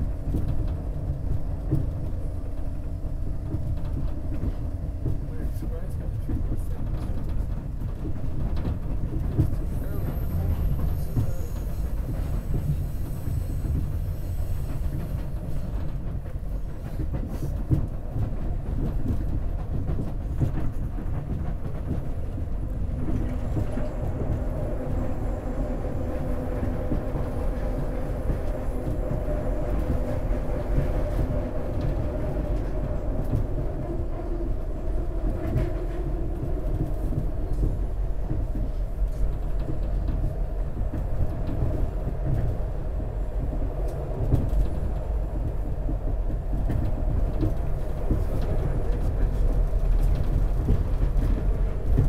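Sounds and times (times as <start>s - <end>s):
train rumble inside passenger car: 0.0s - 52.0s.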